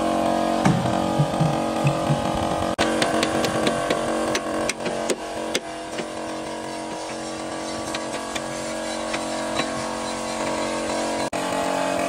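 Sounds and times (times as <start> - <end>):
machine hum: 0.0 - 12.0
metal knocks and clanks: 0.6 - 11.2.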